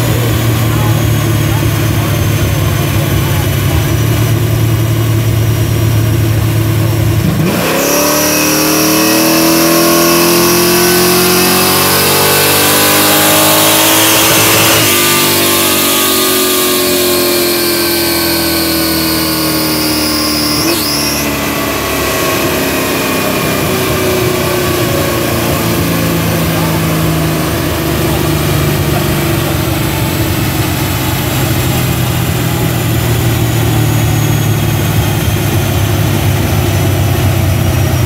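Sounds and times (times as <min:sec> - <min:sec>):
car engine revving under load: 0:00.0 - 0:38.0.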